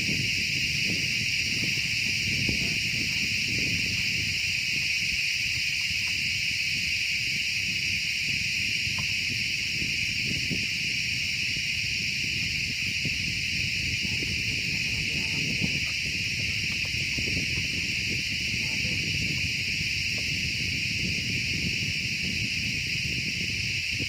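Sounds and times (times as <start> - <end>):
insects buzzing shrilly: 0.0 - 24.0.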